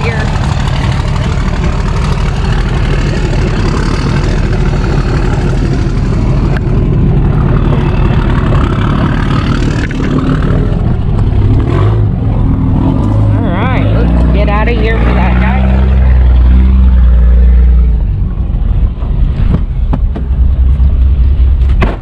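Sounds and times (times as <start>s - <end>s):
truck engine rumbling: 0.0s - 22.0s.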